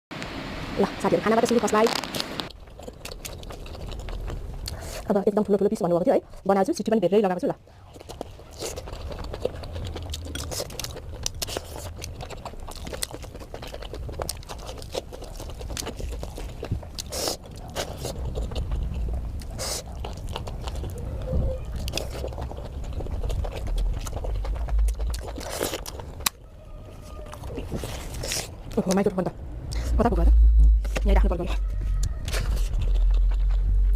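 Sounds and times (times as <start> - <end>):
person chewing crunchy food: 1.9 - 5.1, 7.7 - 29.1, 30.9 - 33.9.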